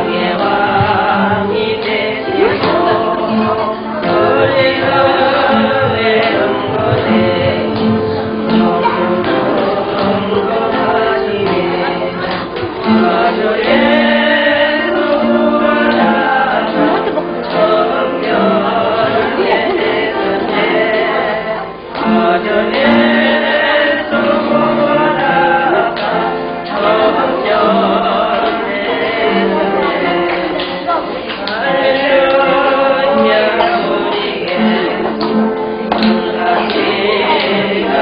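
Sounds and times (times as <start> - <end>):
group singing: 0.0 - 38.0.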